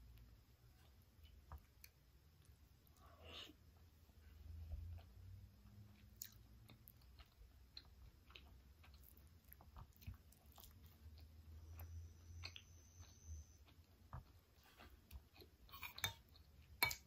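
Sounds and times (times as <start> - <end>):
faint chewing: 0.0 - 17.0
low steady hum: 0.0 - 17.0.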